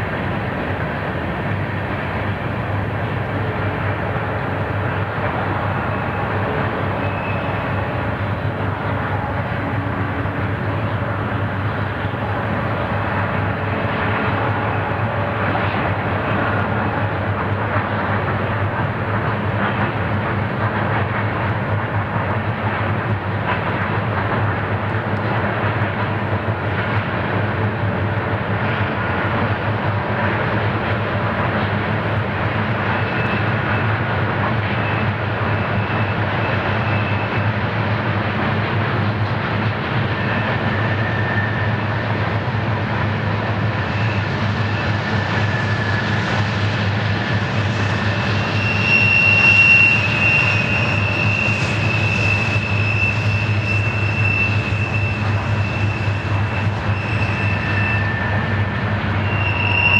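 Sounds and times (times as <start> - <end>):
locomotive engines droning: 0.0 - 59.9.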